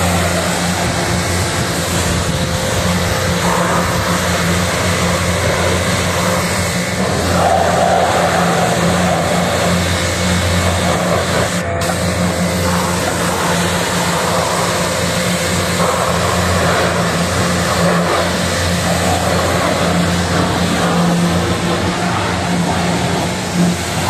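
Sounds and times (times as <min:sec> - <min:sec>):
low motor hum: 0:00.0 - 0:24.0
pressure washer jet spattering metal fins: 0:00.0 - 0:24.0.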